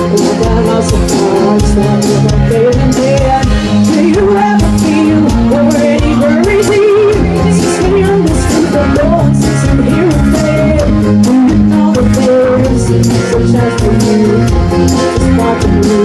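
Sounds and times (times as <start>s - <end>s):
guitar: 0.0s - 16.0s
person singing with vibrato: 0.0s - 16.0s
steady drum beat: 0.0s - 16.0s.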